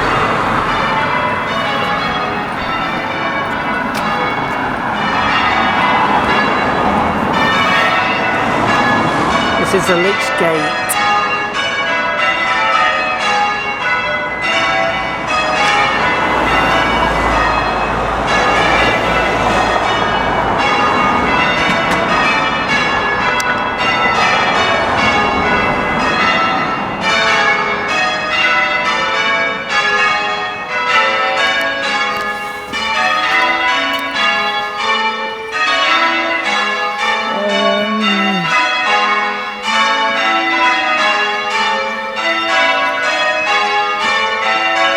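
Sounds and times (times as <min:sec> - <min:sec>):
church bells change ringing: 0:00.0 - 0:44.9.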